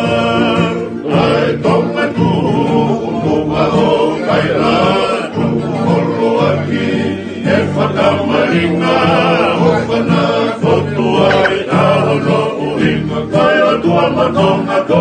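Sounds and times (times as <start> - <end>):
men singing in harmony: 0.0 - 15.0
strummed acoustic guitar: 0.0 - 15.0
ukulele: 0.0 - 15.0.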